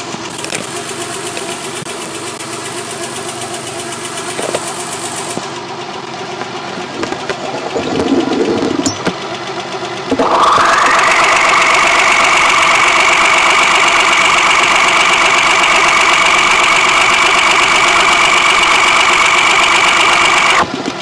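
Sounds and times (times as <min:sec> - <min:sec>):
engine idling through stethoscope: 0:00.0 - 0:21.0.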